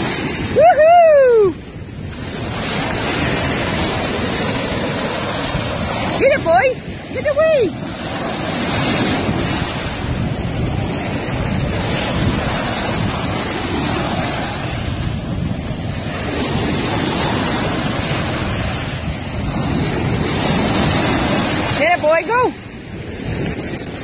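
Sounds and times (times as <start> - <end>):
ocean surf on a sandy beach: 0.0 - 24.0
wind buffeting the microphone: 0.0 - 24.0.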